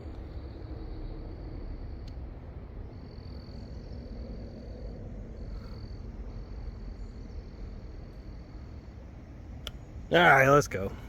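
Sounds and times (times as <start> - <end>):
low rumble: 0.0 - 10.1
insects trilling: 0.0 - 11.0.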